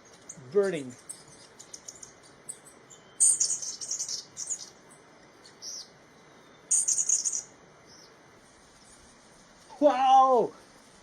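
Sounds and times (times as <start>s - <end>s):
birds chattering: 0.0s - 9.8s.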